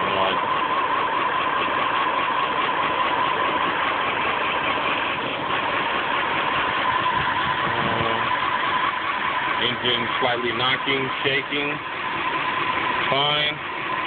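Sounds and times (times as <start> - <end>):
car engine idling roughly: 0.0 - 14.0
steady whining tone: 0.0 - 14.0.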